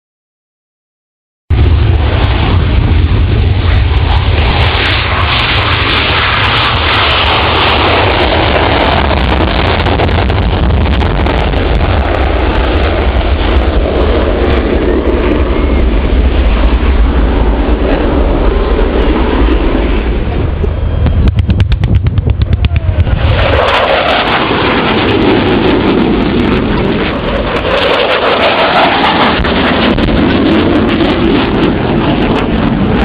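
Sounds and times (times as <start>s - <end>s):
aircraft engines roaring: 1.5s - 33.0s.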